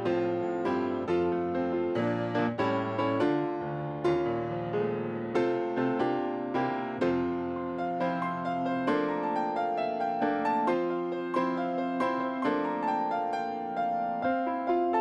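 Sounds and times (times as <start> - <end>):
upbeat solo piano: 0.0 - 15.0.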